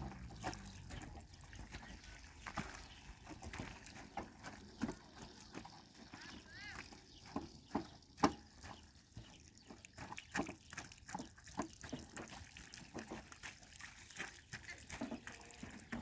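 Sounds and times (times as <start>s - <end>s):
hose water splashing and dripping: 0.0s - 16.0s.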